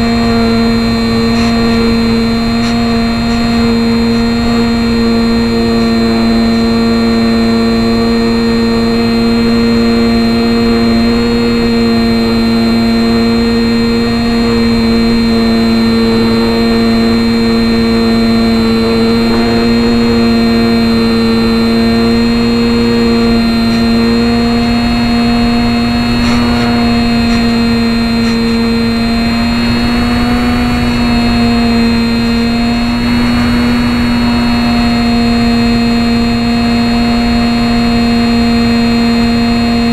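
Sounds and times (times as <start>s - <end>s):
model airplane motor humming: 0.0s - 39.9s.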